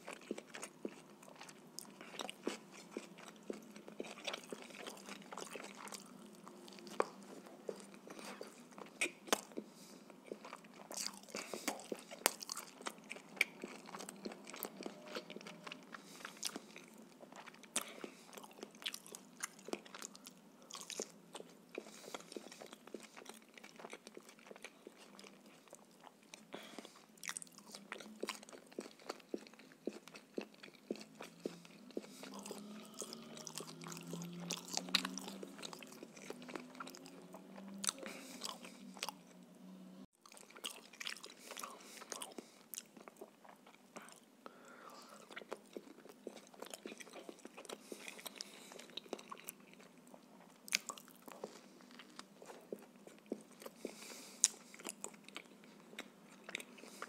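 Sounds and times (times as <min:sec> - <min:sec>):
chewing and biting food: 0:00.0 - 0:39.6, 0:40.2 - 0:44.3, 0:44.9 - 0:57.0.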